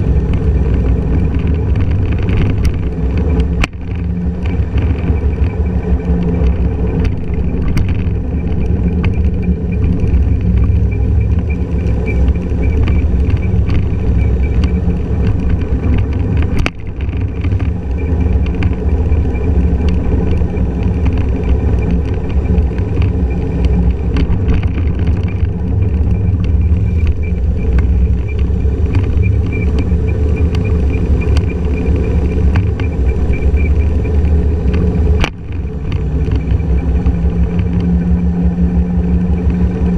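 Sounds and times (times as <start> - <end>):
scooter engine and road rumble: 0.0 - 39.9.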